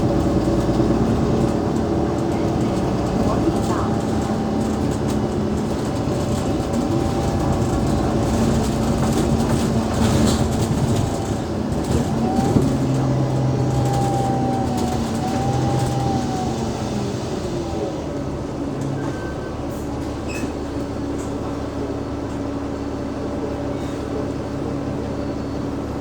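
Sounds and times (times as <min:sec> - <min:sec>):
bus interior drivetrain rumble: 0:00.0 - 0:26.0.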